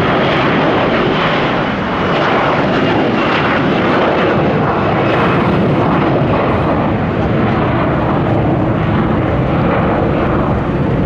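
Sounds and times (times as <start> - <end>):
jet engines at take-off: 0.0 - 11.0.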